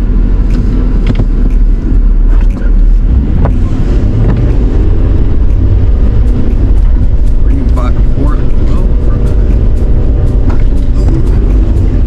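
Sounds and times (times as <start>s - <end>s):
engine rumbling under load: 0.0s - 12.0s.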